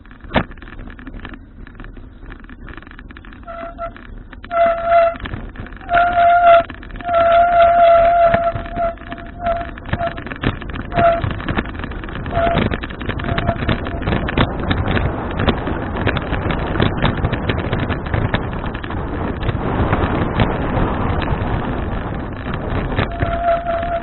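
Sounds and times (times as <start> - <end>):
bicycle rattling and knocking: 0.0 - 24.0
wind buffeting microphone: 0.0 - 24.0.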